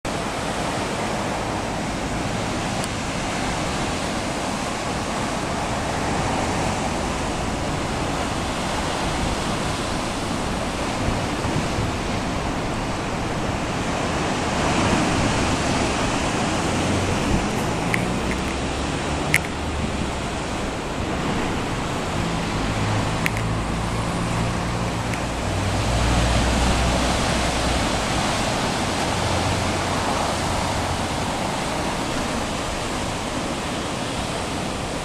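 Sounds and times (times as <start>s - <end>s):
surf washing over rocky shore: 0.1s - 35.0s.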